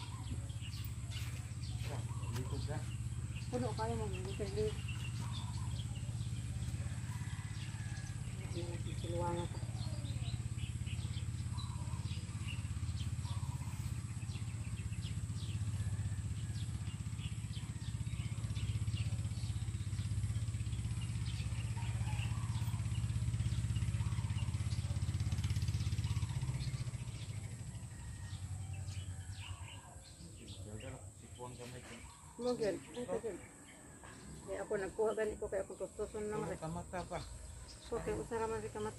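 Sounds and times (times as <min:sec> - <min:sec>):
small birds chirping: 0:00.0 - 0:38.9
small engine droning: 0:00.0 - 0:38.9.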